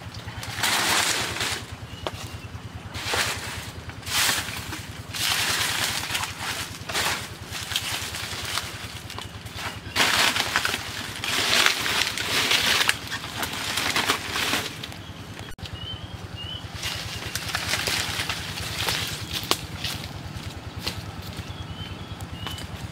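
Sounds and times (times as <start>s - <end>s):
dry leaves rustling: 0.0s - 22.9s.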